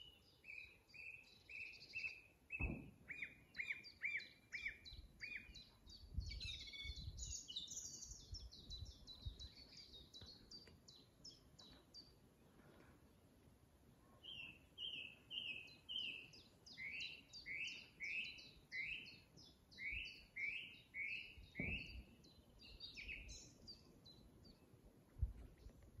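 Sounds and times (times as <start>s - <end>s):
songbird singing: 0.0s - 12.3s, 14.1s - 26.0s.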